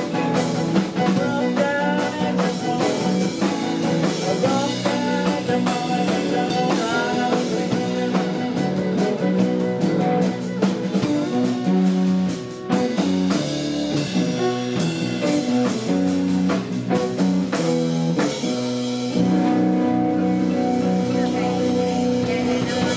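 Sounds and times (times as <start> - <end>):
blues guitar: 0.0 - 22.9
drum kit: 0.0 - 22.9.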